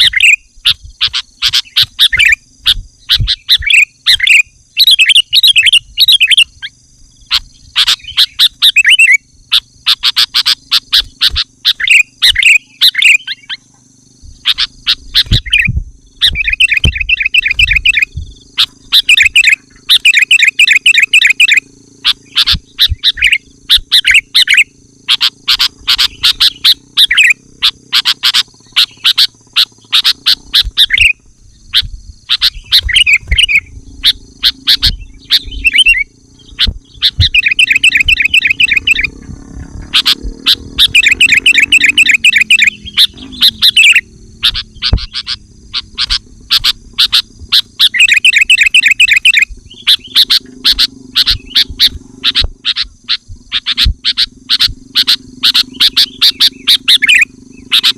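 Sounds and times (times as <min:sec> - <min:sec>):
bulbul singing bubbly chirps: 0:00.0 - 0:57.9.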